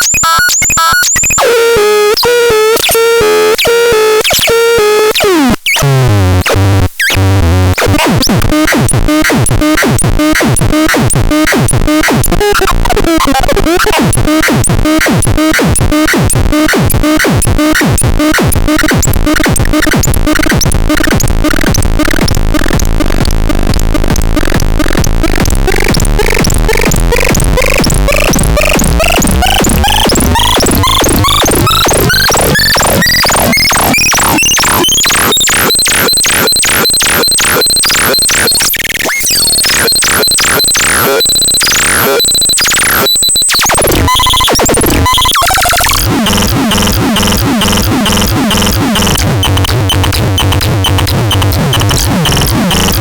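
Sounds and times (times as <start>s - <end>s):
harsh electronic pulsing noise: 9.0s - 53.0s.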